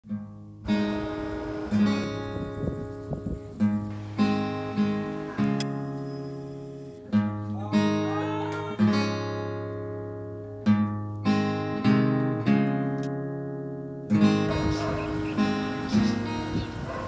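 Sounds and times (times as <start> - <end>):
acoustic guitar strumming chords: 0.1 - 17.0.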